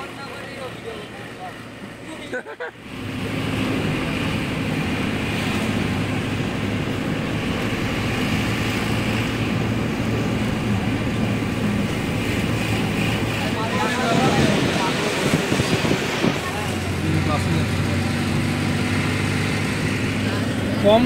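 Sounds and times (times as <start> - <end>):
car engine hum inside cabin: 0.0 - 21.0
tyre noise on the road: 0.0 - 21.0.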